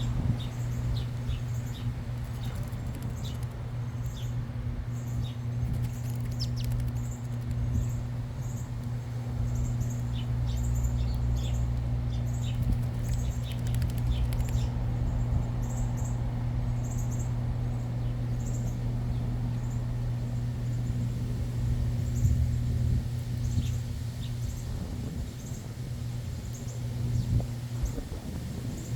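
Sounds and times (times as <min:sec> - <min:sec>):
birds chirping: 0:00.0 - 0:28.1
steady low hum: 0:00.0 - 0:28.9.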